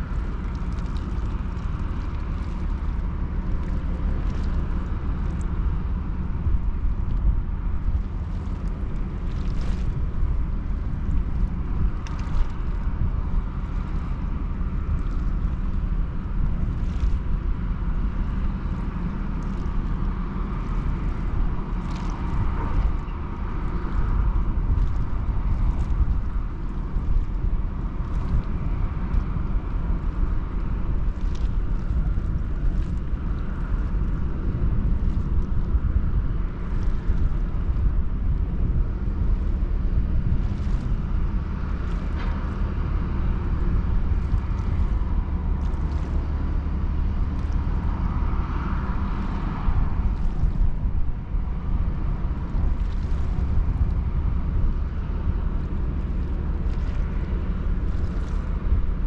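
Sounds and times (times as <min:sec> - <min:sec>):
ferry engine low rumble: 0:00.0 - 0:59.0
wind noise: 0:00.0 - 0:59.0.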